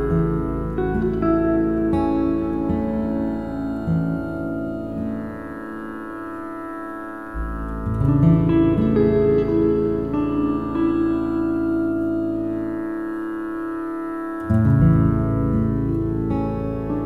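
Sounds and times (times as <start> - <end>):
higher held notes: 0.0 - 17.0
sustained layered instrumental tones: 0.0 - 17.0.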